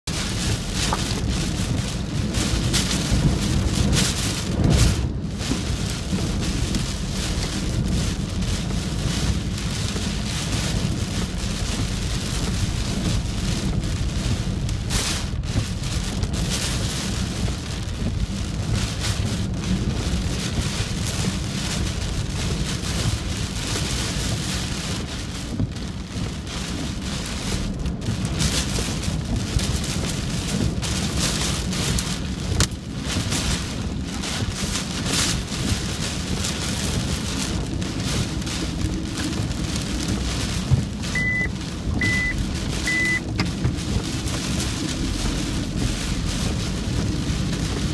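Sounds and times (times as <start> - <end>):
heavy rain: 0.0 - 47.9
low rumble: 0.0 - 47.9
strong wind: 0.1 - 47.9.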